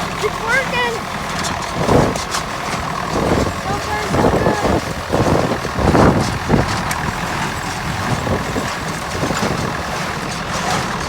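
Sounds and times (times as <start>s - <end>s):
square baler baling hay: 0.0s - 11.0s
tractor diesel engine running: 0.0s - 11.0s.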